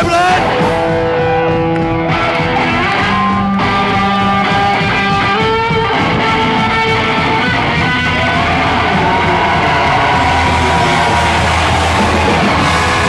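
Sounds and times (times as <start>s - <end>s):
electric guitar lead: 0.0s - 13.0s
live rock band playing: 0.0s - 13.0s.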